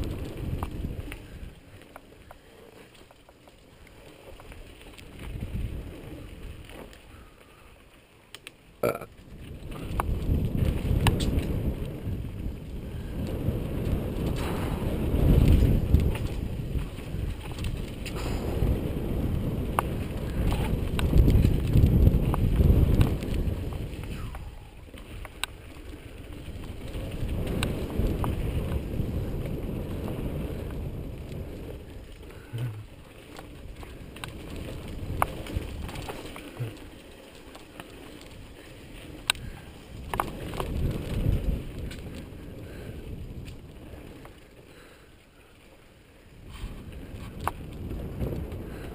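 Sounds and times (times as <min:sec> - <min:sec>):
wind buffeting: 0:00.0 - 0:02.5, 0:03.7 - 0:07.6, 0:09.2 - 0:48.9
bike clicks and rattles: 0:00.0 - 0:48.9
bike tyre rumble on dirt: 0:00.0 - 0:48.9.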